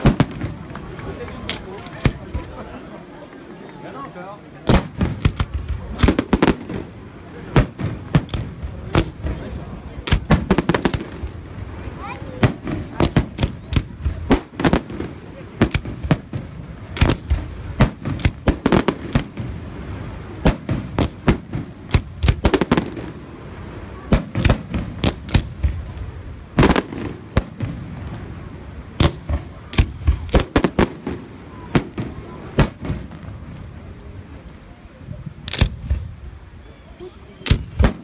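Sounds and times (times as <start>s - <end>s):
fireworks bursting: 0.0s - 3.7s, 4.5s - 34.7s, 35.3s - 38.0s.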